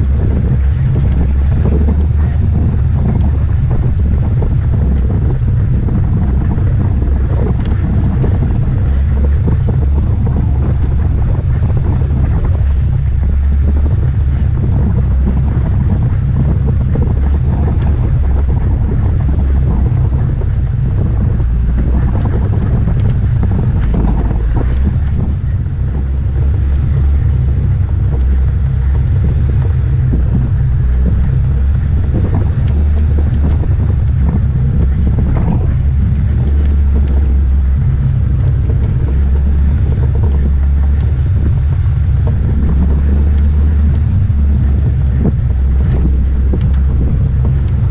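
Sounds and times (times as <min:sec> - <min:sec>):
off-road vehicle engine running: 0:00.0 - 0:47.9
wind buffeting microphone: 0:00.0 - 0:47.9.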